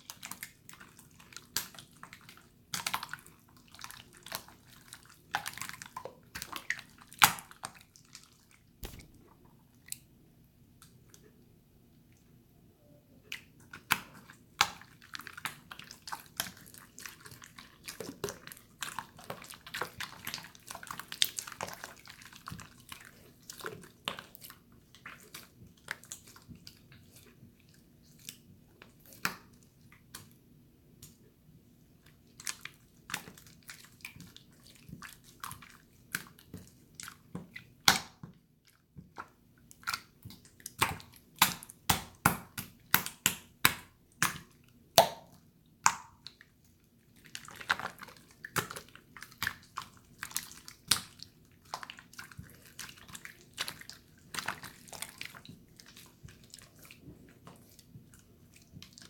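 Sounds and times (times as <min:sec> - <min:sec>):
slime squelching: 0:00.0 - 0:59.0.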